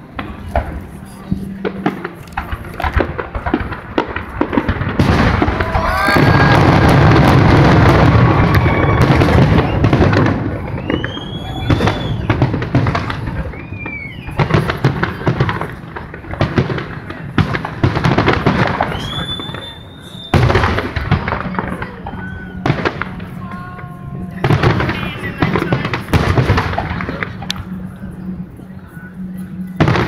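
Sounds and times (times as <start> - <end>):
fireworks booming: 0.0 - 28.4, 29.5 - 30.0
fireworks crackling: 0.0 - 30.0.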